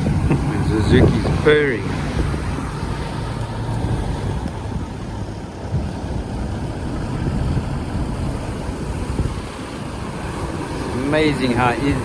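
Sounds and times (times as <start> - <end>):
outboard motor purring: 0.0 - 12.0.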